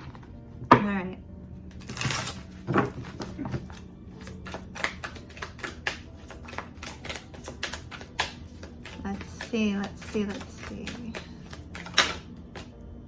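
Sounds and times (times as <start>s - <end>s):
cards being shuffled: 1.7s - 12.7s.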